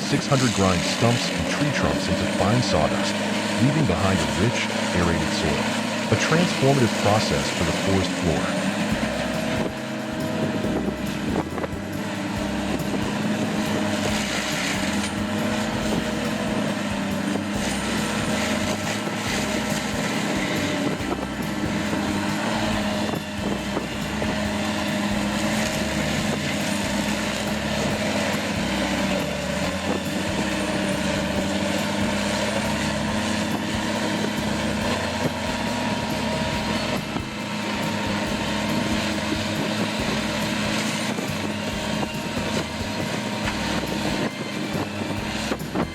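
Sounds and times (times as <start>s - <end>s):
grinding noise: 0.0s - 45.9s
heavy machine engine running: 0.0s - 45.9s.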